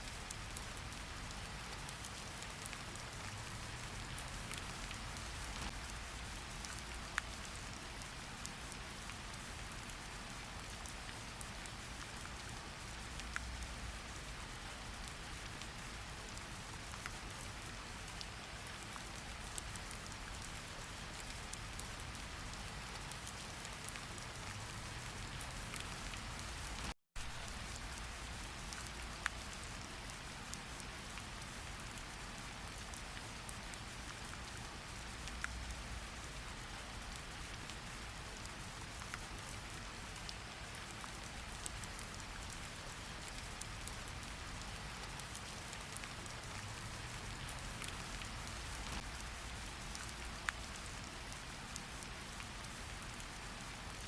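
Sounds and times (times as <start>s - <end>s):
raindrops ticking on a surface: 0.0s - 54.0s
steady rain falling: 0.0s - 54.0s.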